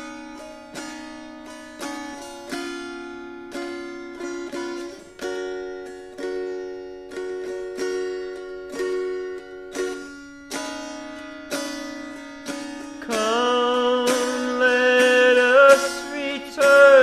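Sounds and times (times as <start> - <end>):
plucked string chords ringing: 0.0 - 17.0.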